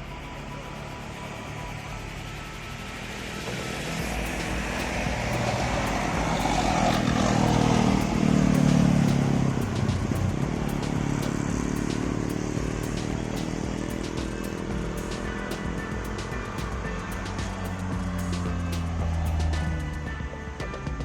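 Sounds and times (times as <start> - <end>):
truck diesel engine climbing: 0.0 - 21.0.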